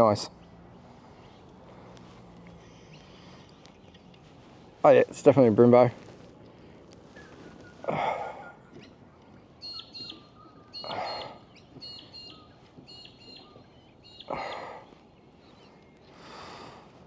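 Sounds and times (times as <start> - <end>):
bird chirping: 0.0 - 4.8, 6.3 - 16.8.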